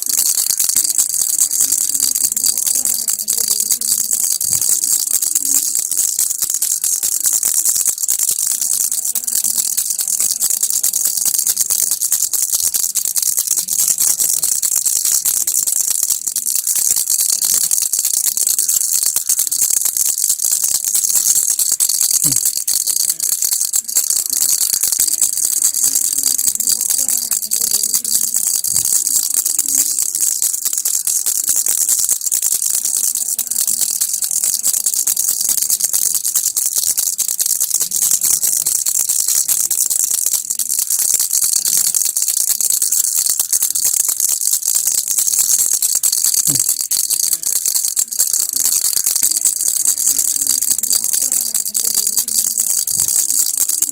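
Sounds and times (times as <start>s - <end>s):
toy rattle shaking: 0.0s - 53.9s.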